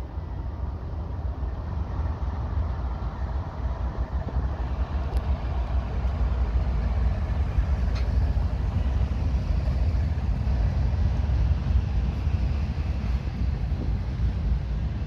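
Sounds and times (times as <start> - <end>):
freight train passing: 0.0 - 15.0.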